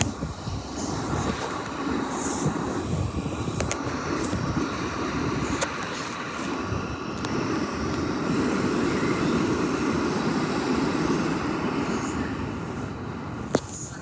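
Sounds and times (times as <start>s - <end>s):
fan rushing air: 0.0s - 14.0s.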